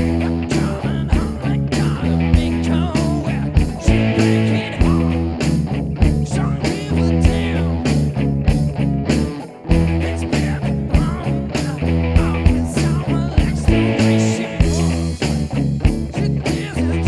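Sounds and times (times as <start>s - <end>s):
rock music with steady beat: 0.0s - 17.0s.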